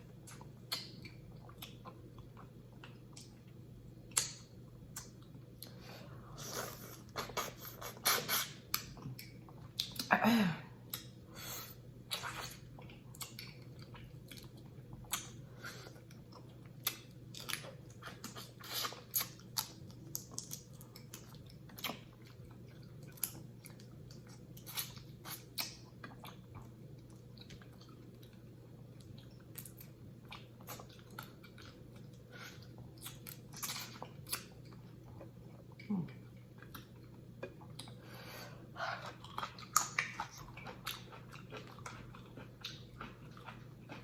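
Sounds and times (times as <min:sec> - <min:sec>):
faint low hum: 0:00.0 - 0:44.0
chewing and mouth smacking: 0:00.2 - 0:05.8, 0:06.6 - 0:10.1, 0:12.1 - 0:38.0, 0:39.0 - 0:44.0.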